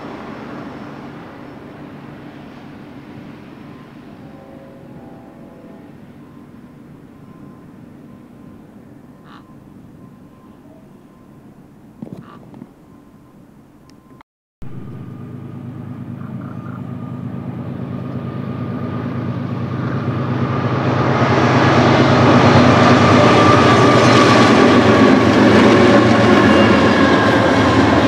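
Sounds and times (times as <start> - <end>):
freight train approaching: 0.0 - 28.0.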